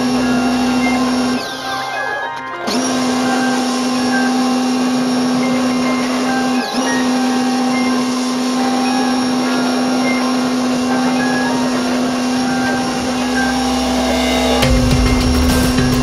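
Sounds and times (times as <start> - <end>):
pressure washer motor hum: 0.0 - 1.4, 2.7 - 16.0.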